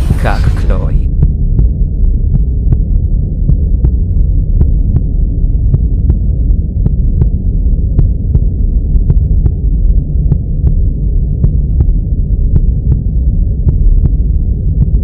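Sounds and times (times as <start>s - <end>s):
muffled bass-heavy rumble: 0.0s - 15.0s
steady ticking beat: 0.0s - 15.0s.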